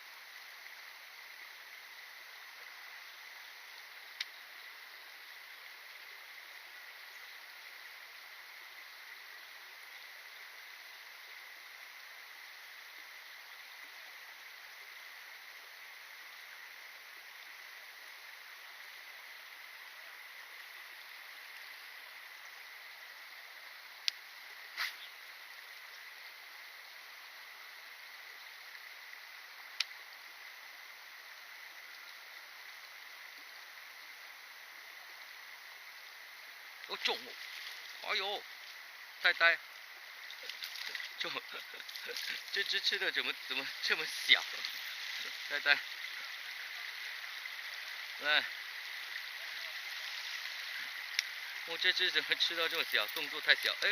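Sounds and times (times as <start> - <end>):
faint high hiss: 0.0 - 53.9
flowing water rushing: 0.0 - 53.9.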